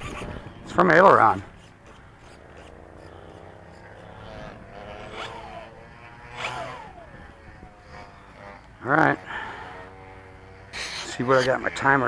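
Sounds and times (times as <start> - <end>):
servo buzzing with thin whine: 0.0 - 12.0.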